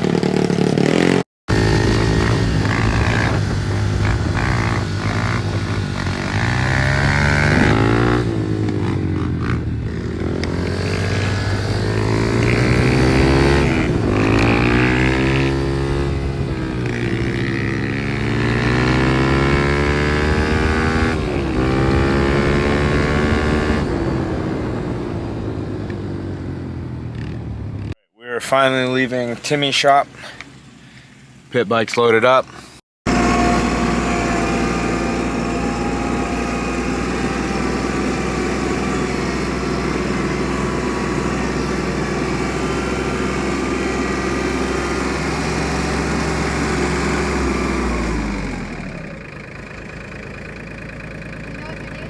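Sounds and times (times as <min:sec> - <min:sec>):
small motorbike engine revving: 0:00.0 - 0:28.0, 0:32.4 - 0:52.0.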